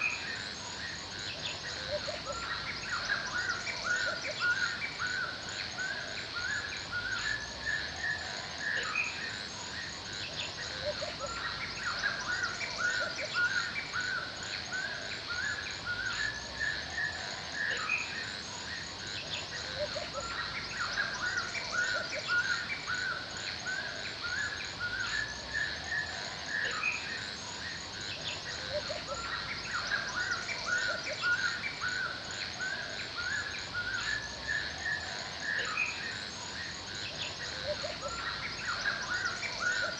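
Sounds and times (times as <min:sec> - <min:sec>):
birds chirping: 0:00.0 - 0:39.9
insects chirring: 0:00.0 - 0:39.9.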